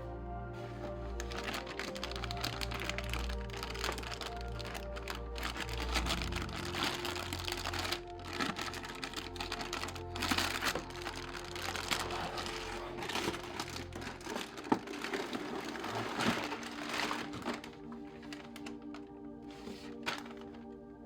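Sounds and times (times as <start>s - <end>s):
clicks and crinkling: 0.8s - 21.0s.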